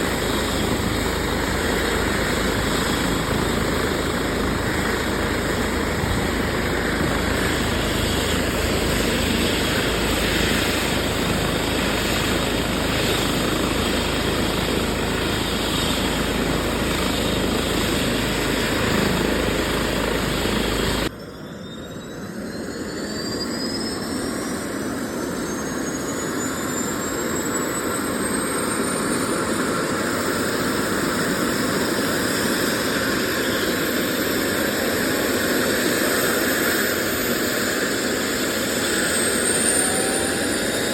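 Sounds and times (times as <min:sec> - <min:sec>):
helicopter rotor noise: 0:00.0 - 0:40.9
high turbine whine: 0:00.0 - 0:40.9.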